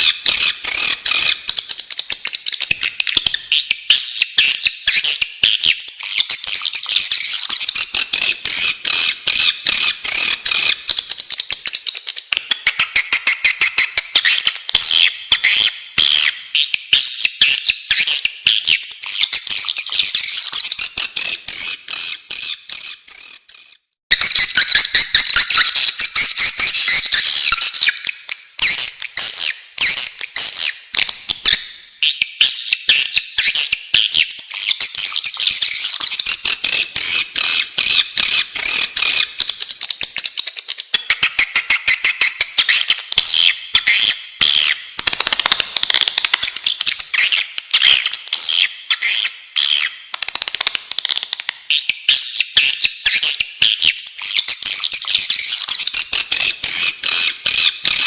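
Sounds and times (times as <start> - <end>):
rapid twittering bird chirps: 0.0 - 50.5, 51.7 - 58.0.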